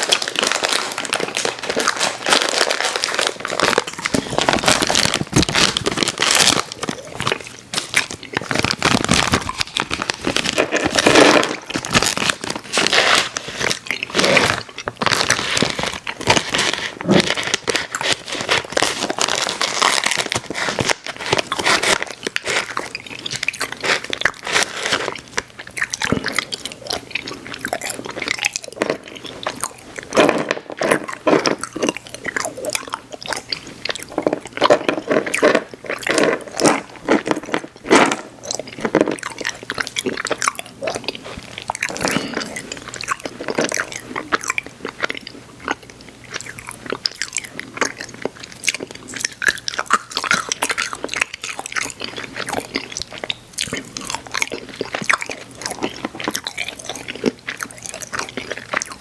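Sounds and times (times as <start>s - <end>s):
mouth chewing chewy candy: 0.0s - 59.0s.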